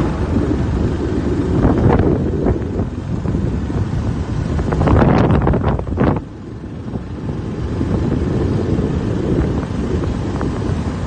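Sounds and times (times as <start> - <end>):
road and engine rumble: 0.0 - 11.0
wind buffeting microphone: 0.0 - 11.0.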